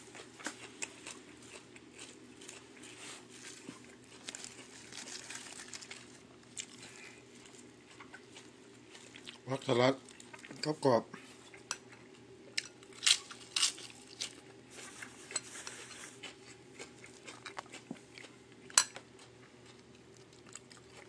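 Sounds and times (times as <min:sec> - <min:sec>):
chewing and crunching: 0:00.0 - 0:21.0.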